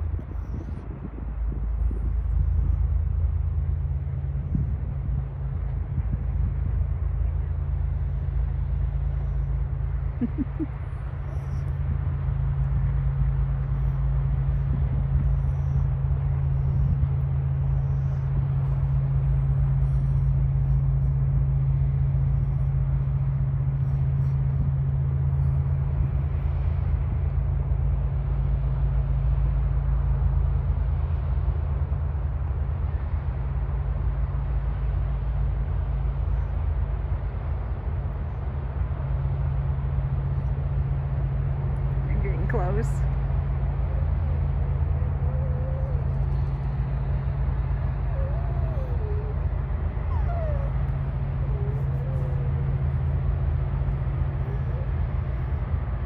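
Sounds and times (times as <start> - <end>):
boat diesel engines droning: 0.0 - 56.0
uneven low rumble: 0.0 - 56.0.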